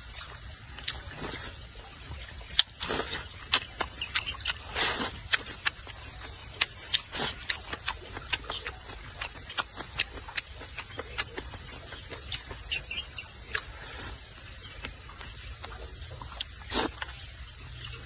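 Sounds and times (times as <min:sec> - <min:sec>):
wet chewing: 0:00.1 - 0:17.3
slurping: 0:00.2 - 0:01.7, 0:02.5 - 0:14.9, 0:15.6 - 0:17.2.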